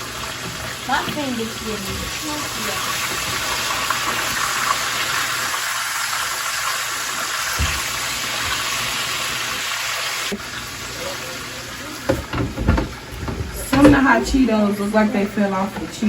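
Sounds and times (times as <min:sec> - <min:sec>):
water running from tap: 0:00.0 - 0:16.0.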